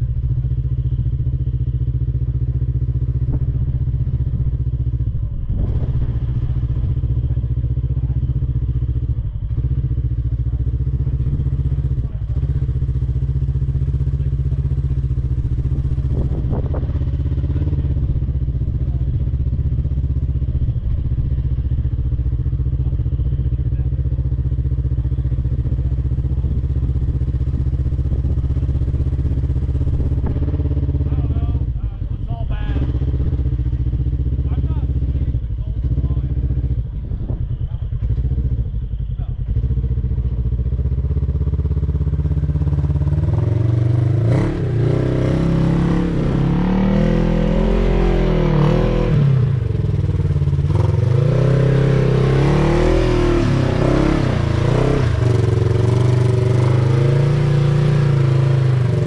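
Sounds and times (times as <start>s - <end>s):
buggy engine running steadily: 0.0s - 59.0s.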